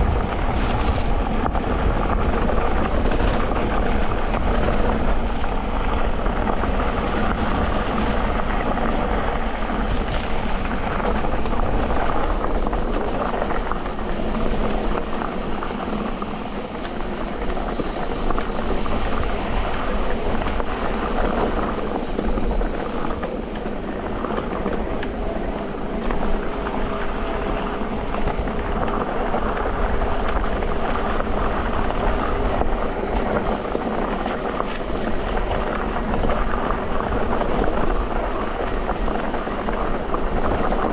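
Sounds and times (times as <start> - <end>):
bike tyres rolling and rattling: 0.0 - 40.9.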